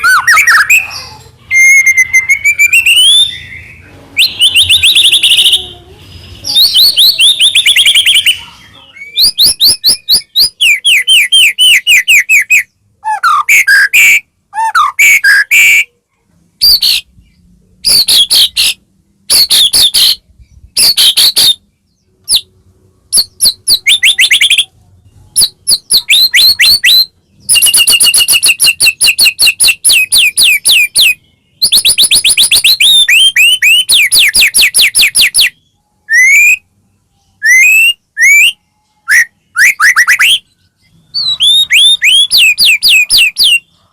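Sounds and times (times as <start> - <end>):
bird singing whistled trills: 0.0 - 5.7, 6.3 - 15.9, 17.8 - 22.5, 23.1 - 43.9.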